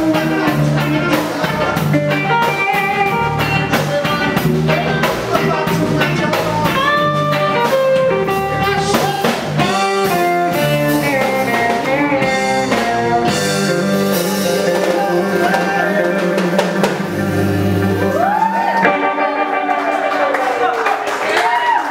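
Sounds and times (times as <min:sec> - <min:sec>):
electric guitar lead lines: 0:00.0 - 0:21.0
drum kit: 0:00.0 - 0:21.8.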